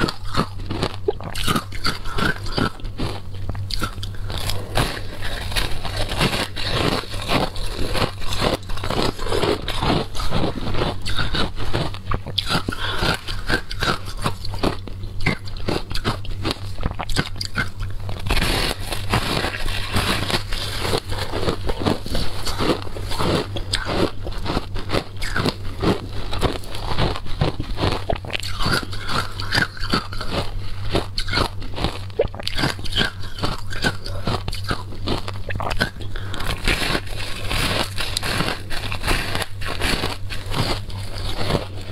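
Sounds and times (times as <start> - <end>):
ice being chewed crunching: 0.0 - 41.9.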